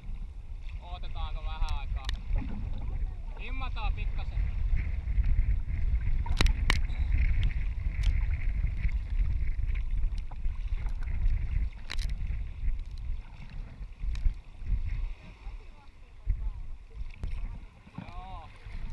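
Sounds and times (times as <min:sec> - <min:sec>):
choppy waves slapping hull: 0:00.0 - 0:18.9
wind buffeting microphone: 0:00.0 - 0:18.9.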